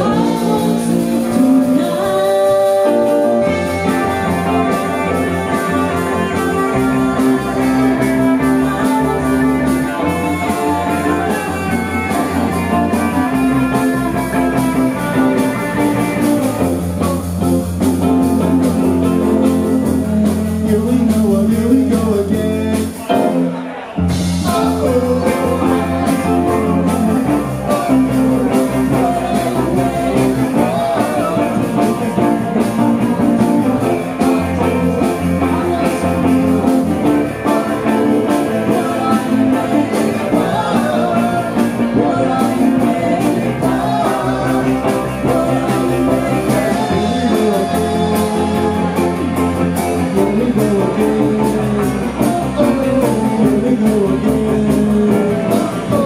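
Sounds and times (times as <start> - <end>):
woman singing lead: 0.0 - 16.6, 18.7 - 56.0
drum kit: 0.0 - 56.0
electric bass: 0.0 - 56.0
electric guitar: 0.0 - 56.0
keyboards: 0.0 - 56.0.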